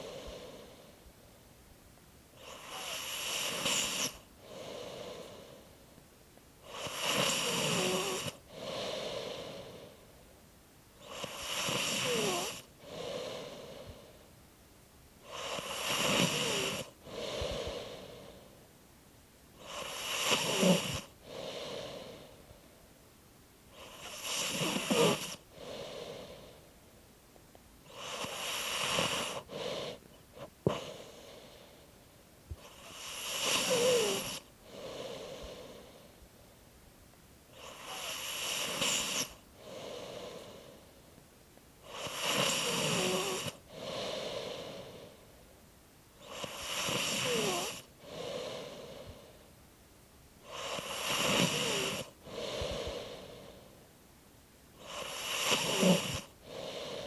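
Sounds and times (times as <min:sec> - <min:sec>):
slow rhythmic snoring: 0:00.0 - 0:01.1, 0:02.3 - 0:06.0, 0:06.6 - 0:10.3, 0:10.9 - 0:14.3, 0:15.2 - 0:18.6, 0:19.6 - 0:22.7, 0:23.7 - 0:26.7, 0:27.8 - 0:36.2, 0:37.5 - 0:41.2, 0:41.8 - 0:45.5, 0:46.1 - 0:49.5, 0:50.4 - 0:53.9, 0:54.7 - 0:57.0.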